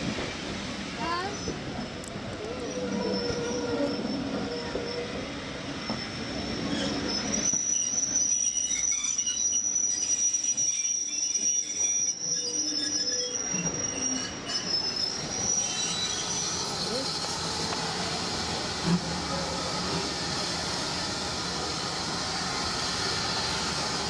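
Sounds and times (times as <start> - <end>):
train rumbling: 0.0 - 24.0
train wheels squealing on rails: 0.0 - 24.0.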